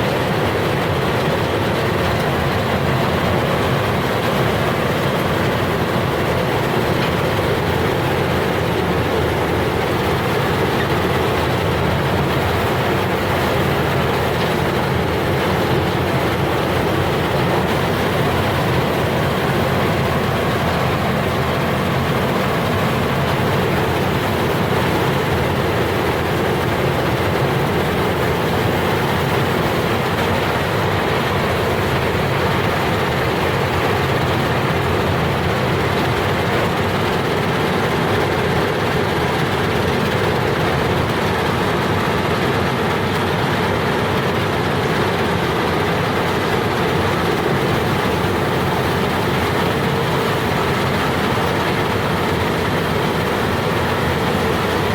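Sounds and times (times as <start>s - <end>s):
combine harvester droning: 0.0s - 54.9s.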